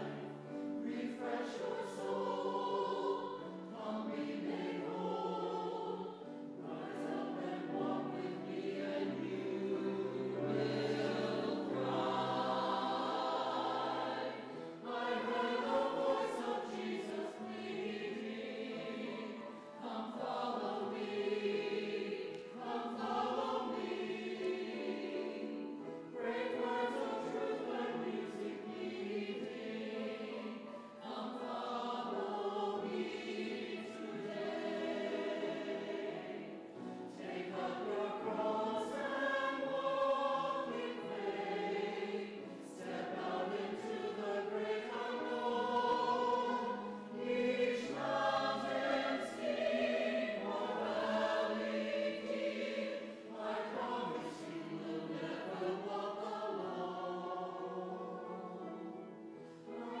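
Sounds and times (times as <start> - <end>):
church choir singing in parts: 0.0 - 60.0.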